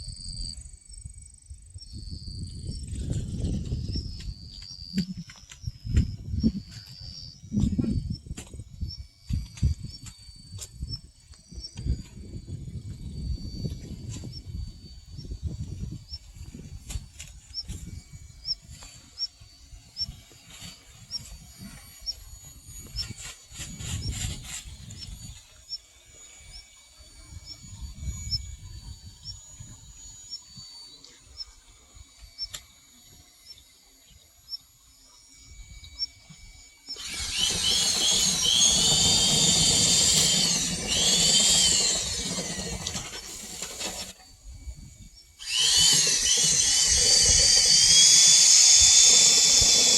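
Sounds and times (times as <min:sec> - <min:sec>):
power drill whining: 0:02.5 - 0:33.8, 0:34.4 - 0:49.9.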